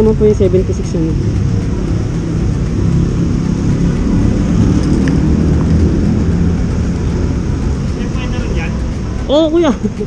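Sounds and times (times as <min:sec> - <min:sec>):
motorcycle engine rumbling: 0:00.0 - 0:10.0
road traffic: 0:00.0 - 0:10.0.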